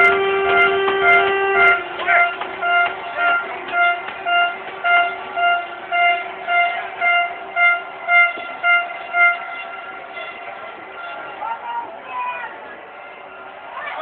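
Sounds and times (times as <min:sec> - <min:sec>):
horn tooting: 0:00.0 - 0:11.6.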